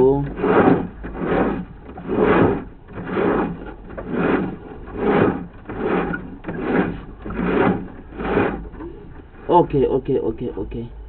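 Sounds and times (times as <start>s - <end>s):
push cable rasping in drain: 0.0s - 9.7s.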